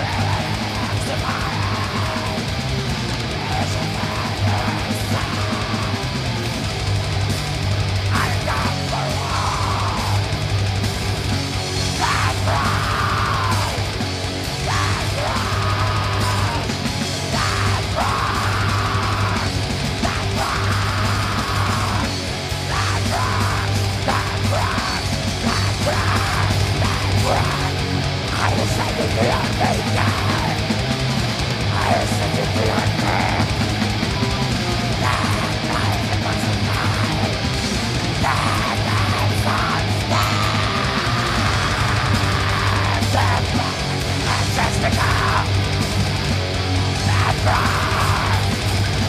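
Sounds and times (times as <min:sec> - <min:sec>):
distorted guitars: 0:00.0 - 0:49.0
drums: 0:00.0 - 0:49.0
harsh vocals: 0:00.0 - 0:49.0.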